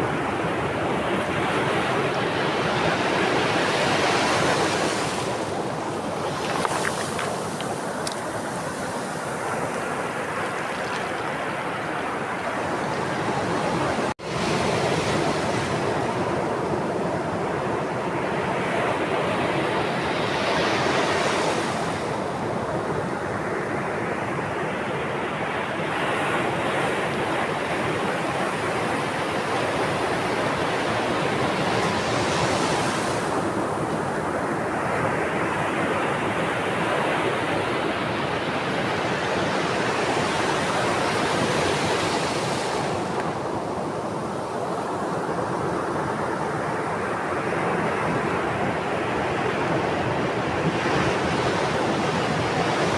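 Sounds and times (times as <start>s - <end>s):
sea waves breaking on shore: 0.0s - 24.2s, 25.3s - 52.9s.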